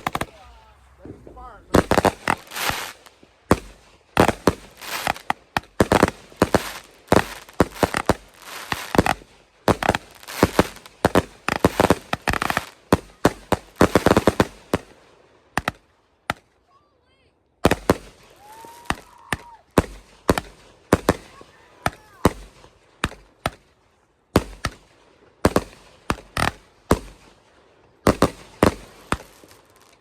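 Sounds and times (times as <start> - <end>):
fireworks cracking and banging: 0.0 - 15.0, 15.6 - 16.5, 17.6 - 30.0.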